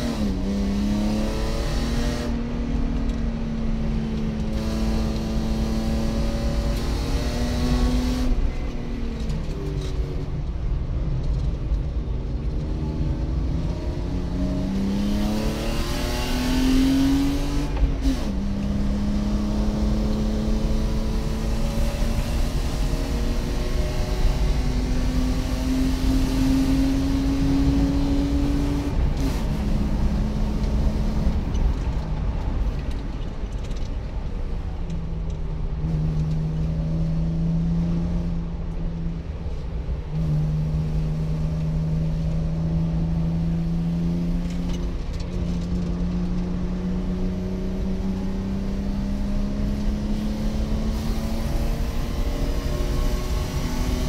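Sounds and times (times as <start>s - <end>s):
road and wind noise: 0.0s - 54.0s.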